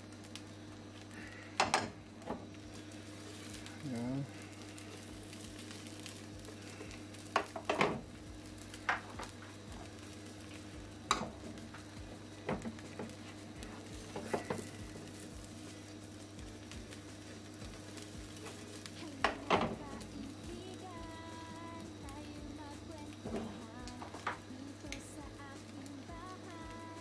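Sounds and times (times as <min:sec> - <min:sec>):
egg frying in a pan: 0:00.0 - 0:27.0
steady low hum: 0:00.0 - 0:27.0.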